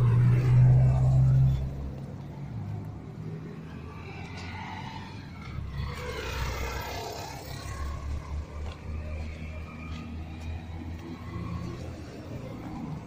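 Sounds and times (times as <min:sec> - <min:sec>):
steady low traffic rumble: 0:00.0 - 0:13.0
vehicle passing: 0:00.0 - 0:13.0.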